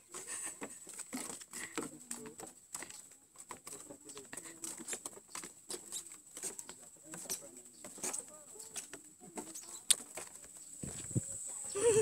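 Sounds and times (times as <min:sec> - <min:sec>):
footsteps on wooden boards: 0:00.0 - 0:12.0.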